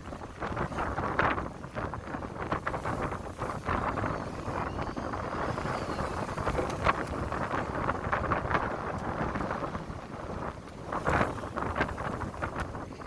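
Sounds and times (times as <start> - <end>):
rough sea rushing: 0.0 - 13.0
wind buffeting microphone: 0.0 - 13.0.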